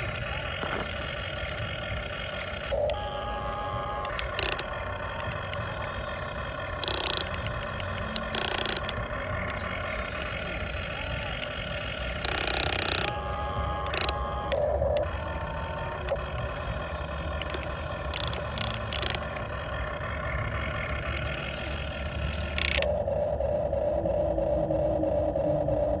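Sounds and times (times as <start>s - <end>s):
toy excavator motors whining: 0.0s - 23.2s.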